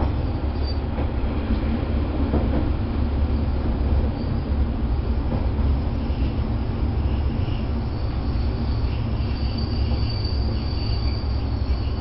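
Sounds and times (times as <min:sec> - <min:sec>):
railcar engine drone: 0:00.0 - 0:12.0.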